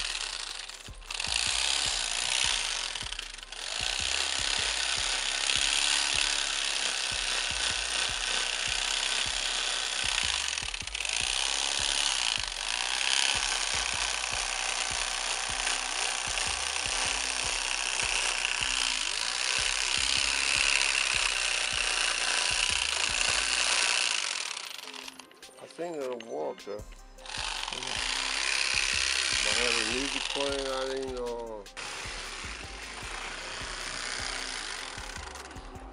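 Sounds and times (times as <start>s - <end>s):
electric knife motor buzzing: 0.0s - 25.4s, 26.8s - 35.9s.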